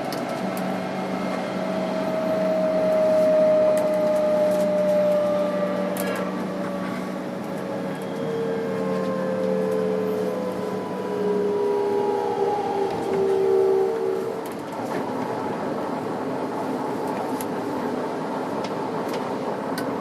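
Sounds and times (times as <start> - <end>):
train motor and inverter whine: 0.0 - 20.0
train rolling noise: 0.0 - 20.0.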